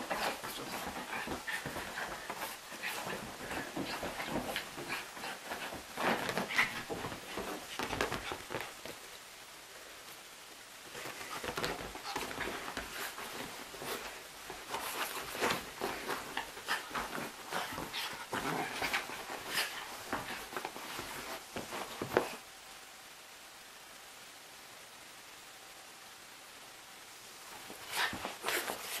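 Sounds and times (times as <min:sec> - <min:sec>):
puppy rustling on sofa cushions: 0:00.0 - 0:09.2, 0:09.9 - 0:22.5, 0:27.4 - 0:29.0.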